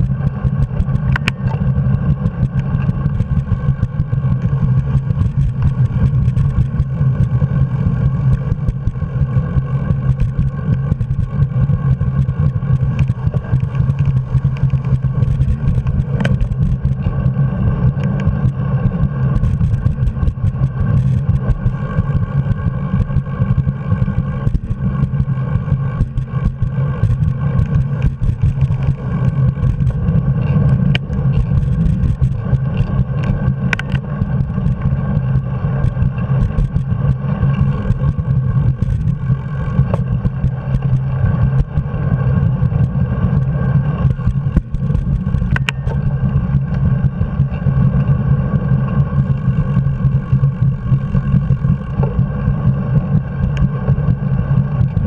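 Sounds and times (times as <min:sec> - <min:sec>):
faint ticks: 0:00.0 - 0:07.4, 0:09.9 - 0:48.1
bicycle riding rumble: 0:00.0 - 0:55.0.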